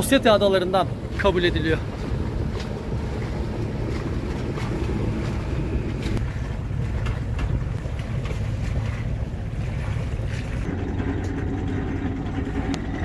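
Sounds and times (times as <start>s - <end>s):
boat motor rumbling: 0.0s - 13.0s
water washing past: 0.0s - 13.0s
wind buffeting microphone: 0.0s - 13.0s.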